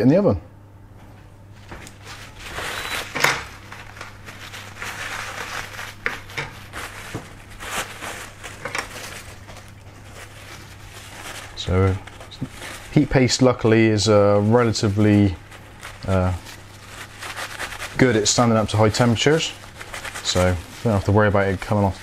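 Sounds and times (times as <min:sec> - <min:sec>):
paper towel rubbing circuit board: 0:01.6 - 0:22.0.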